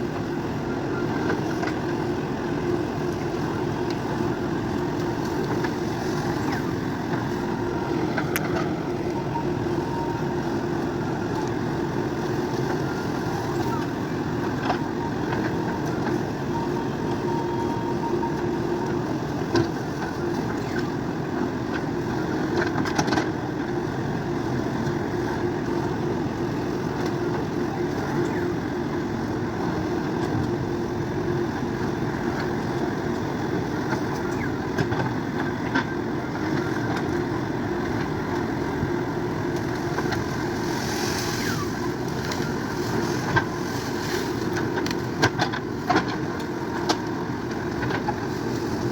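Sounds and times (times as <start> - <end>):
backhoe diesel engine running: 0.0 - 48.9.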